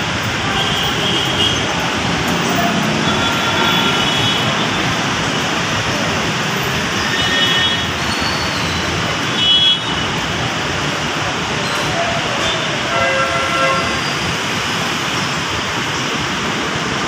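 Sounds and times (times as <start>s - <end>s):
pouring rain: 0.0s - 17.0s
road traffic: 0.0s - 17.0s.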